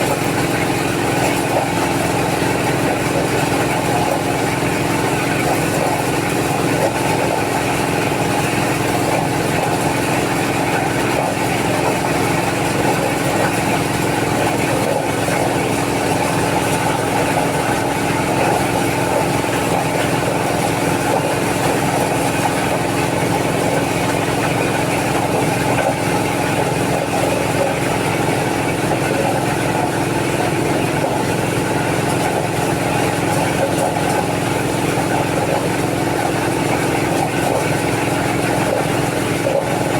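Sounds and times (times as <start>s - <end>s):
engine-driven corn sheller running: 0.0s - 39.9s.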